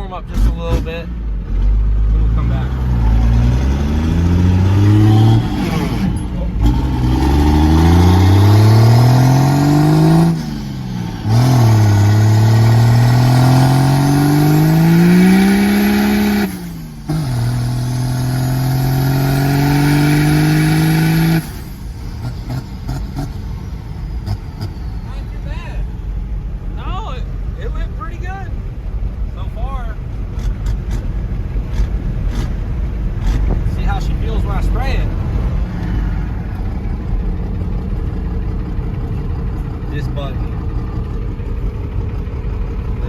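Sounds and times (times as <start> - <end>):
diesel truck accelerating: 0.0 - 43.0.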